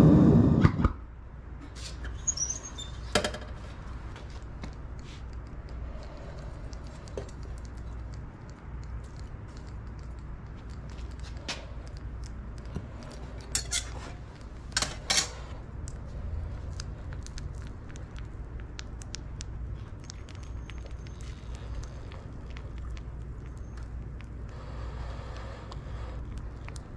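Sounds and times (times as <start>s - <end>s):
gas furnace burner rumbling: 0.0s - 20.2s, 21.0s - 26.9s
sharp crackles and ticks: 4.2s - 14.9s, 15.8s - 26.9s.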